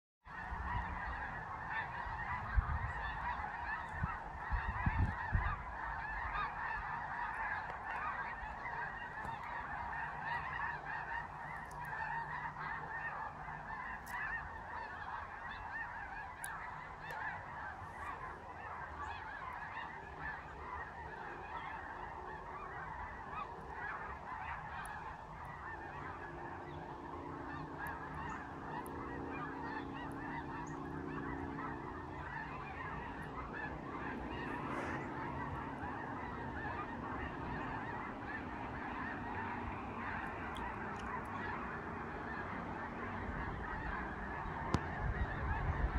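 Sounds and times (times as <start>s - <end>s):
geese honking: 0.3s - 45.9s.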